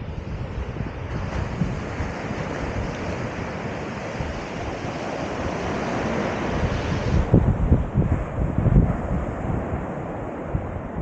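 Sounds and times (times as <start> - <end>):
sea waves washing on shore: 0.0 - 11.0
wind buffeting microphone: 0.0 - 11.0.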